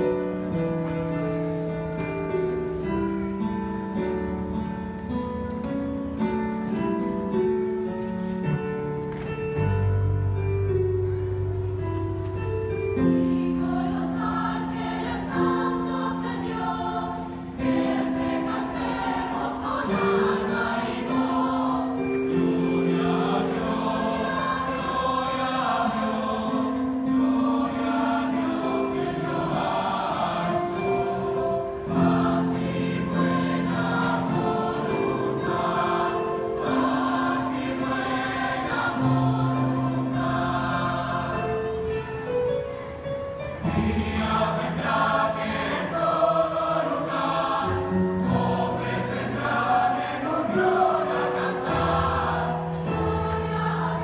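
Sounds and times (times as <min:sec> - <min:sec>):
mixed choir singing in harmony: 0:00.0 - 0:05.5, 0:11.6 - 0:54.0.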